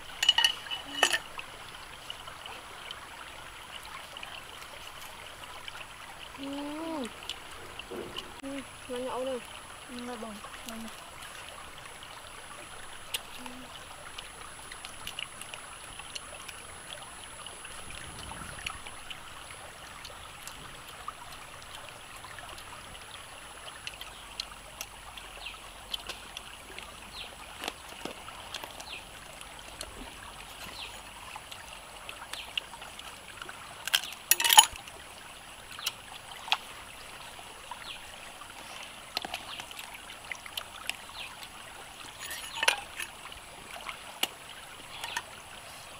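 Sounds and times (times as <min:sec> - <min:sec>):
stream trickling over rocks: 0:00.0 - 0:45.9.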